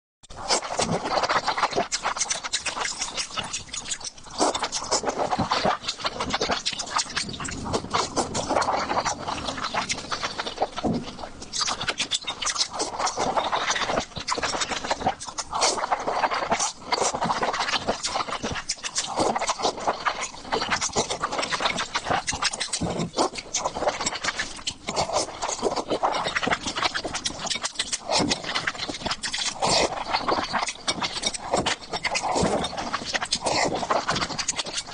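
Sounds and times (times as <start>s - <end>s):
chewing with wet smacks: 0.3s - 34.9s.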